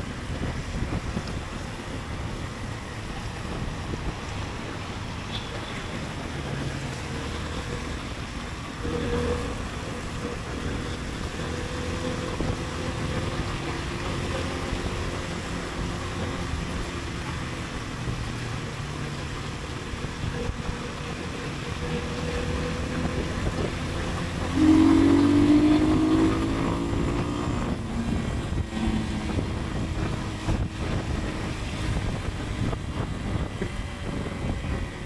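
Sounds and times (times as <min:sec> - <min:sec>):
motorcycle engine: 0:00.0 - 0:35.0
road noise: 0:00.0 - 0:35.0
wind rushing over microphone: 0:00.0 - 0:35.0.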